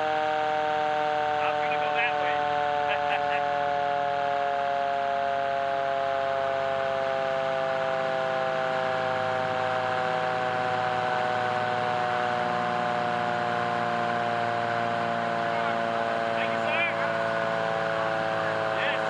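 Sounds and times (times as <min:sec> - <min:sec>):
fire truck siren sliding down: 0:00.0 - 0:19.0.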